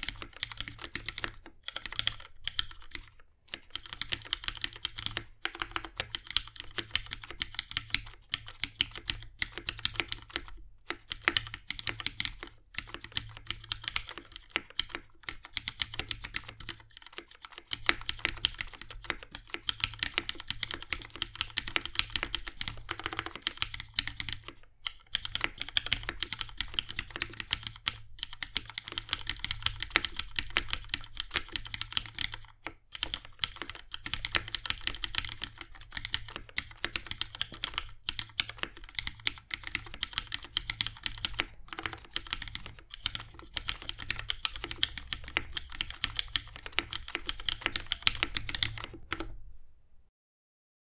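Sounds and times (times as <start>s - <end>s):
mechanical keyboard typing: 0.0s - 49.4s.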